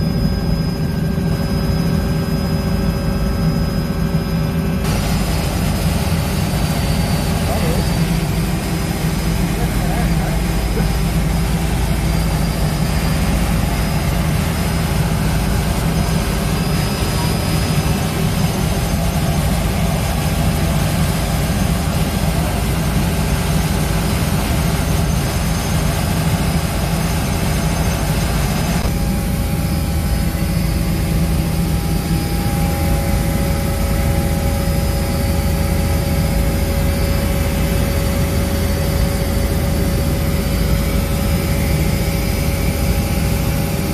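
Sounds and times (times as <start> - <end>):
helicopter engine and rotor drone: 0.0 - 43.9.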